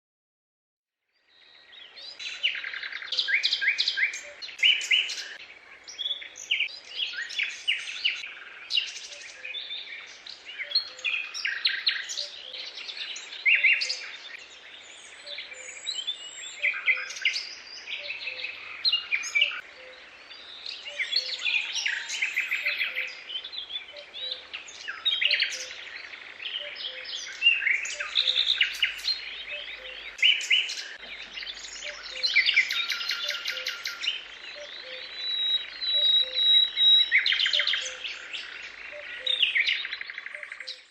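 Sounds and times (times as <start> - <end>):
small birds chirping and trilling: 1.1 - 40.9.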